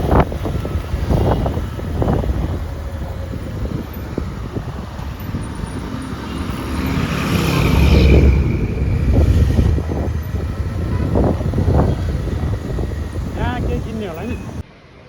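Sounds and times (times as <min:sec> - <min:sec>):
motorcycle engine and road rumble: 0:00.0 - 0:14.6
vehicle passing: 0:00.0 - 0:14.6.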